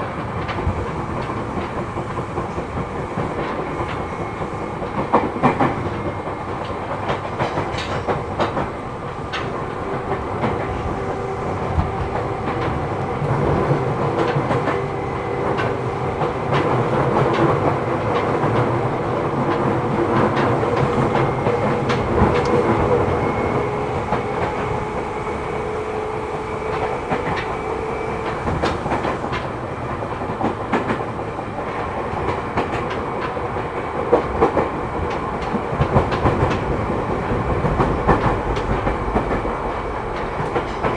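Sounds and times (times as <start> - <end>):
rail joint clicks and knocks: 0.0 - 40.9
train wheels rumbling on rail: 0.0 - 40.9.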